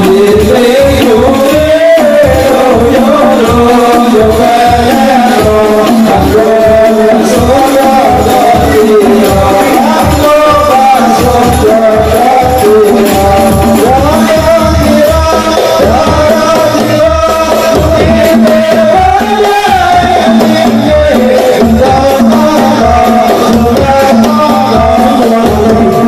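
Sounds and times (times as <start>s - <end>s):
hand-struck frame drums: 0.0s - 26.0s
men singing: 0.0s - 26.0s.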